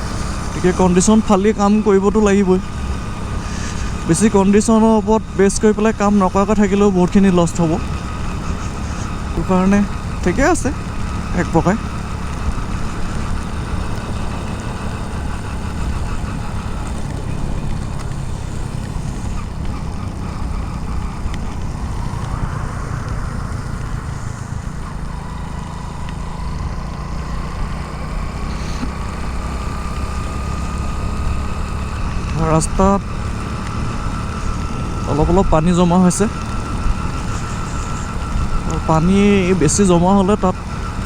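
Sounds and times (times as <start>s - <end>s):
motorcycle engine rumble: 0.0s - 41.0s
tyres on wet road: 0.0s - 41.0s
wind: 0.0s - 41.0s.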